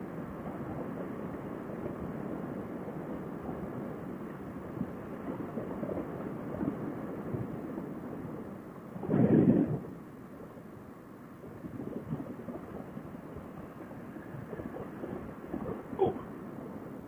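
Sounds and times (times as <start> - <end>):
muffled wind rumble on microphone: 0.0 - 17.0.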